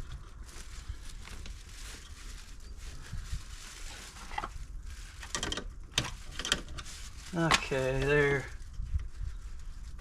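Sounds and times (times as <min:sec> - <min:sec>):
wires rustling and scraping: 0:00.0 - 0:10.0.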